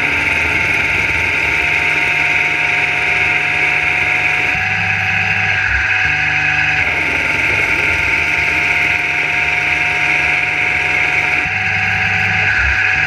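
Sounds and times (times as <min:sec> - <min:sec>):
low machine hum: 0:00.0 - 0:13.0
steady tones: 0:00.0 - 0:13.0.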